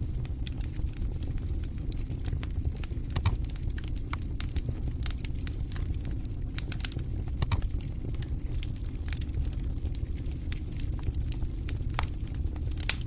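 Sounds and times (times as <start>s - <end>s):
campfire crackling and popping: 0.0s - 13.0s
low rumble: 0.0s - 13.0s.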